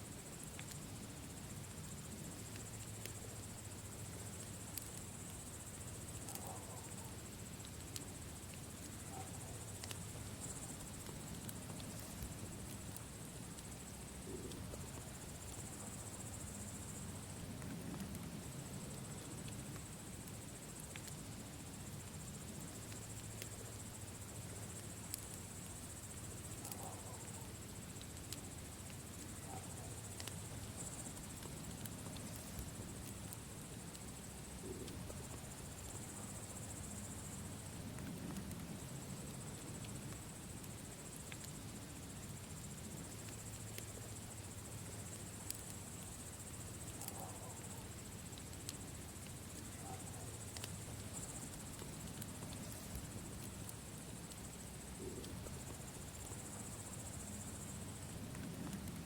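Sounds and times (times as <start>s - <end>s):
insects chirring: 0.0s - 59.0s
campfire crackling and popping: 0.2s - 59.0s.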